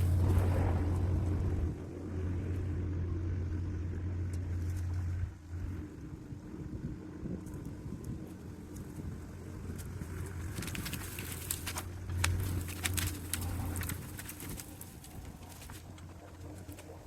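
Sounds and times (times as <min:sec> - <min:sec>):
excavator diesel engine droning: 0:00.0 - 0:17.0.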